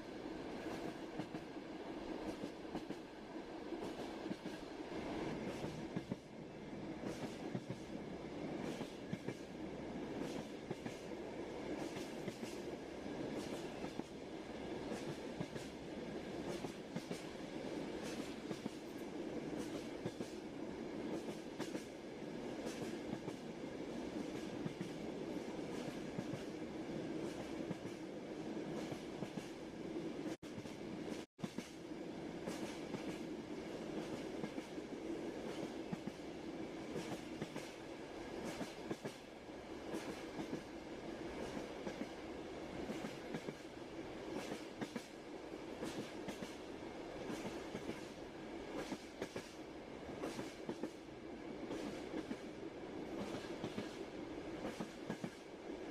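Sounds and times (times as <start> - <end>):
train rumbling on rails: 0.0 - 55.9.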